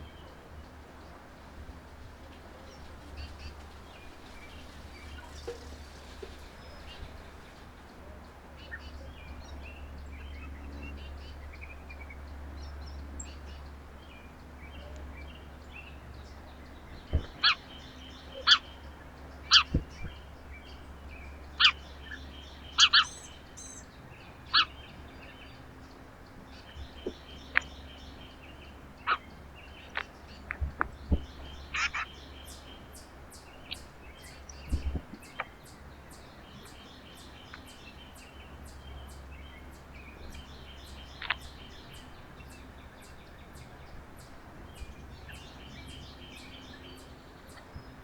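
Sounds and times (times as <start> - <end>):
songbirds twittering: 0.0 - 48.0.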